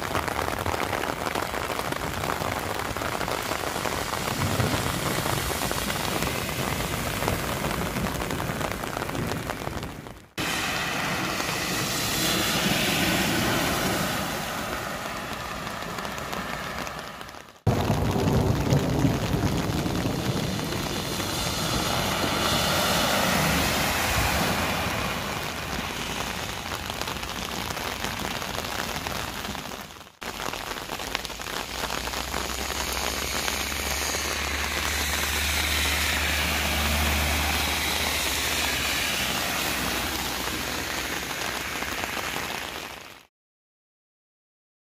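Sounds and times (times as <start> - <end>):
torrential rain on road: 0.0 - 43.3.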